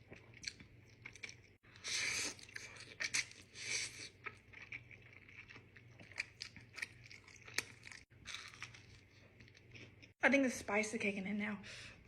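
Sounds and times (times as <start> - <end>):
person chewing noodles: 0.0 - 10.1.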